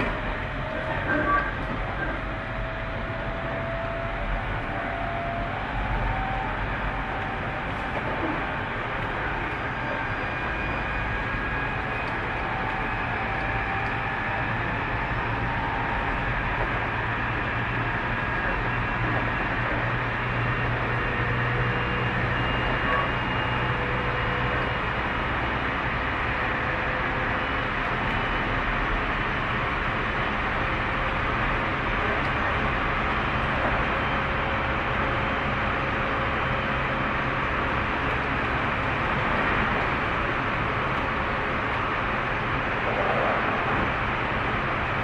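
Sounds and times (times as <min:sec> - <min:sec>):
train rolling rumble: 0:00.0 - 0:45.0.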